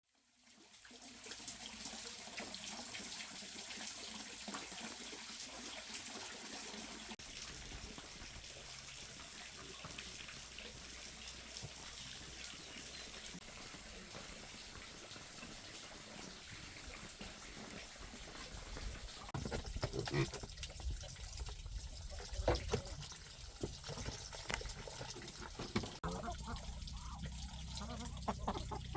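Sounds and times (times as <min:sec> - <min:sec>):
trickle of running water: 0:00.0 - 0:28.9
small water splashes: 0:00.5 - 0:28.9.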